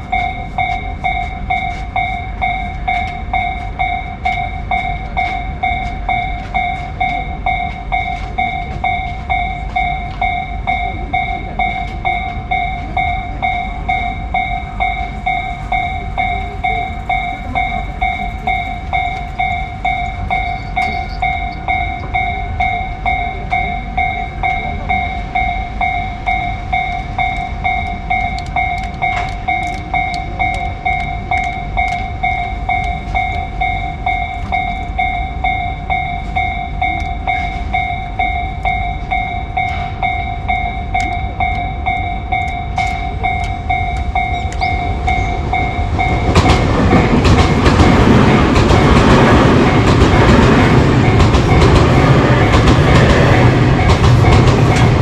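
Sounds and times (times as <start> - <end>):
railroad crossing alarm ringing: 0.0 - 55.0
train passing with wheel clatter: 0.0 - 55.0.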